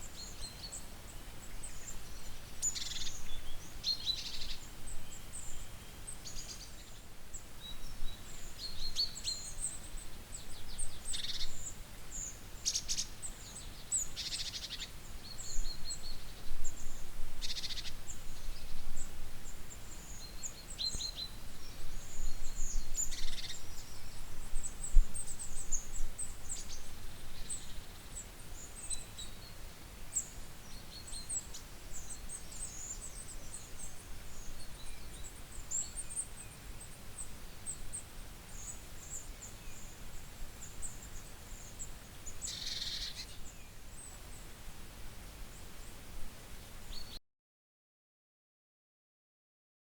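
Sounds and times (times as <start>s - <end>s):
small birds chirping: 0.0s - 44.6s, 45.4s - 47.2s.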